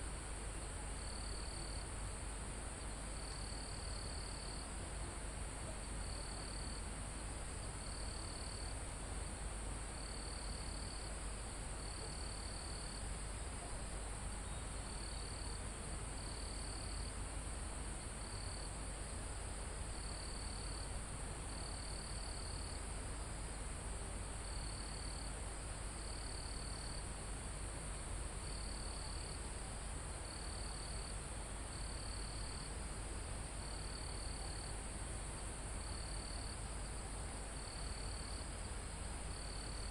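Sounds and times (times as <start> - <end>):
low background hiss: 0.0 - 39.9
cricket song trills: 0.8 - 8.9, 9.5 - 23.6, 24.4 - 39.9.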